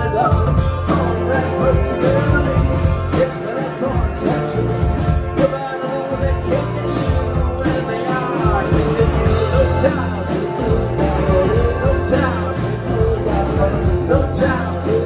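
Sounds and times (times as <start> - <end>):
drums keeping a steady beat: 0.0 - 15.0
live band playing country-rock: 0.0 - 15.0.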